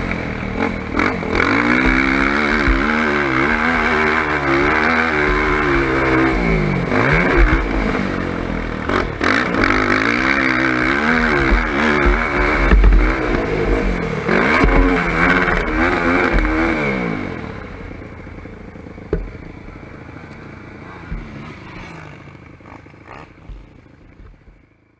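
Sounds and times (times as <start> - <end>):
atv engine revving: 0.0 - 24.9
quad rattling over rough ground: 0.0 - 24.9.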